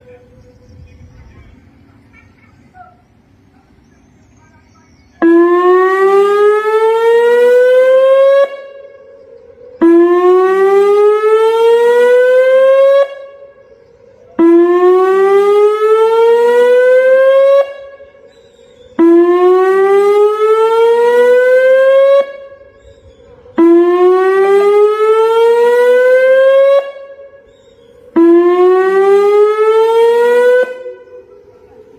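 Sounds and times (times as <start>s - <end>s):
warning siren whooping: 5.2s - 31.9s.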